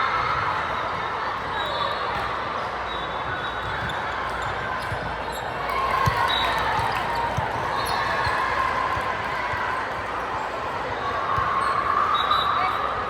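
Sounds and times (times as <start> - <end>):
crowd and player voices: 0.0 - 13.0.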